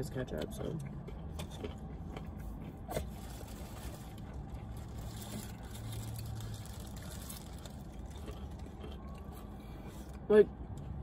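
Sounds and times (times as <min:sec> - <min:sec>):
low hum inside car cabin: 0:00.0 - 0:11.0.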